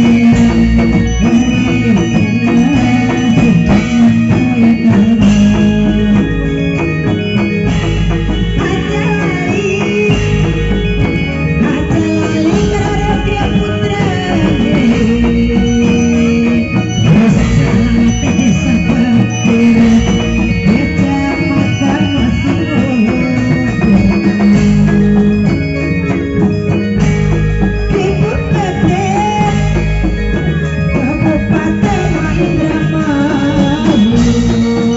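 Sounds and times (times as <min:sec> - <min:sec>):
drums and percussion: 0:00.0 - 0:34.9
gliding melodic line: 0:00.0 - 0:34.9.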